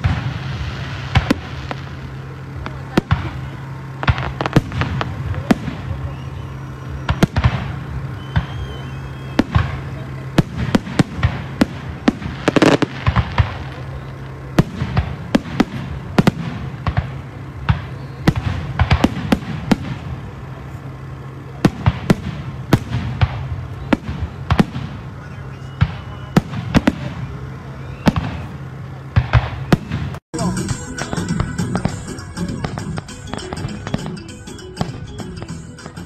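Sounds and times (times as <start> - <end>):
fireworks bangs and crackles: 0.0 - 30.2, 30.8 - 36.0.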